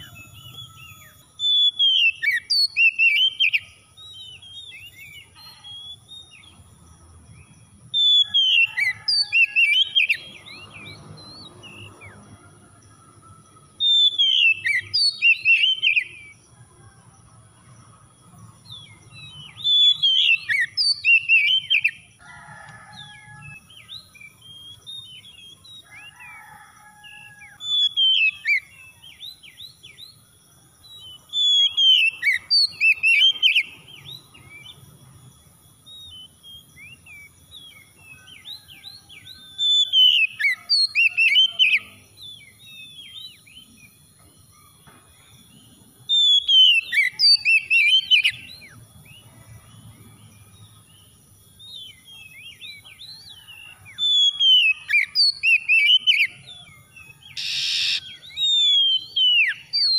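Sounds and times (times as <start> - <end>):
bird singing whistled trills: 0.0 - 12.4, 13.7 - 16.4, 18.6 - 22.1, 27.6 - 30.2, 30.8 - 34.8, 35.8 - 50.7, 51.5 - 59.9.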